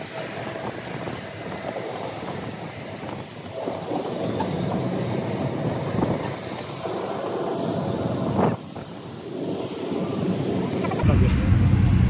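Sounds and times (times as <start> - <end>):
aircraft engine hum: 0.0 - 12.0.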